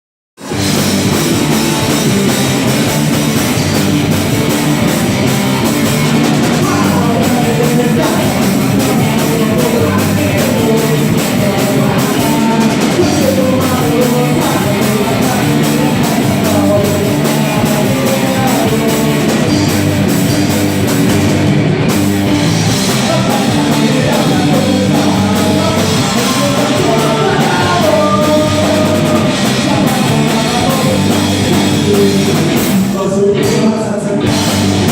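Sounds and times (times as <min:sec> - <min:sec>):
drum kit: 0:00.4 - 0:34.9
rock band playing: 0:00.4 - 0:34.9
person singing: 0:01.0 - 0:05.6, 0:06.3 - 0:20.4, 0:22.7 - 0:34.9.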